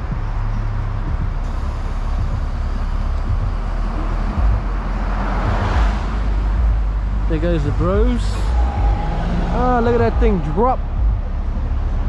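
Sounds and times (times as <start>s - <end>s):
vehicle engine rumble driving past: 0.0s - 12.0s.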